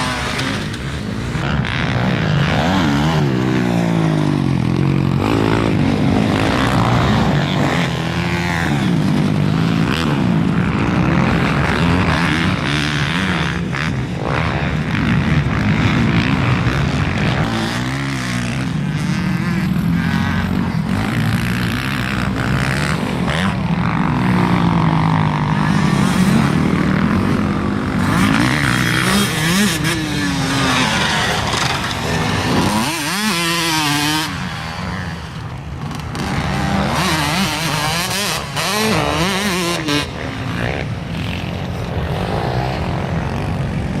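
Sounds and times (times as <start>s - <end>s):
dirt bike engines revving: 0.0s - 44.0s.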